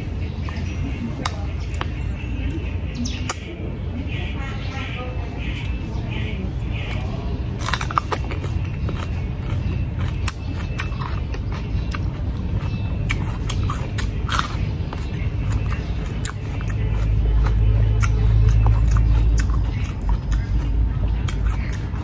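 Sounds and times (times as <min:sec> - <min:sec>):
crunching and chewing cucumber: 0:00.0 - 0:03.6, 0:05.4 - 0:22.0.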